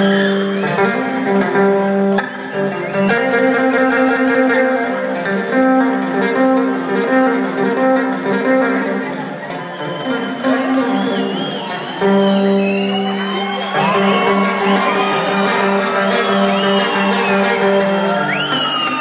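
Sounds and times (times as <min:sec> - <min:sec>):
guitar: 0:00.0 - 0:19.0
held string notes: 0:00.0 - 0:19.0
live rock band: 0:00.0 - 0:19.0.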